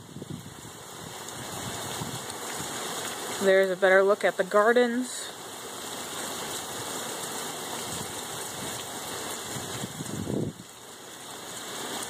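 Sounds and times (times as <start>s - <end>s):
rain falling on street: 0.0s - 12.0s
running floodwater: 0.0s - 12.0s.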